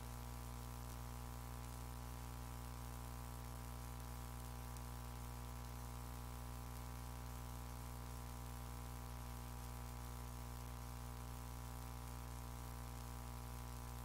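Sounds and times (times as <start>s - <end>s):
constant hiss: 0.0s - 14.0s
low electrical hum: 0.0s - 14.0s.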